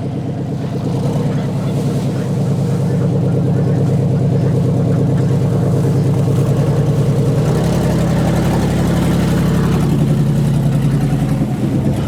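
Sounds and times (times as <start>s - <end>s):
chainsaw engine idling: 0.1s - 12.0s.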